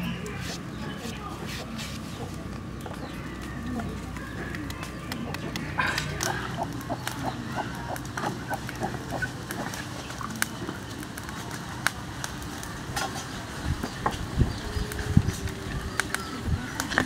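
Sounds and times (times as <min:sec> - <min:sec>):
charcoal embers crackling: 0:00.0 - 0:17.0.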